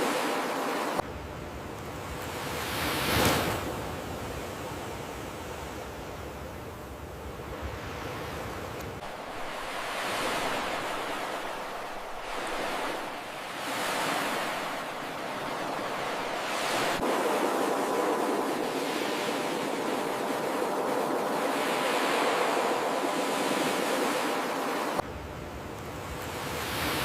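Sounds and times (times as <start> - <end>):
waves breaking on shore: 0.0 - 1.0, 1.6 - 6.4, 7.0 - 27.0.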